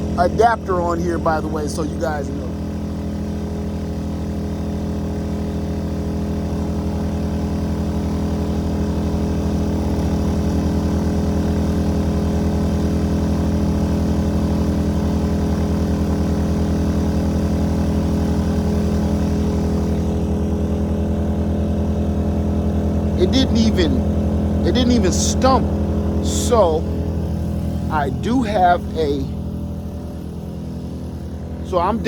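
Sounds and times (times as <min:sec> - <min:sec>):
generator engine hum: 0:00.0 - 0:32.0.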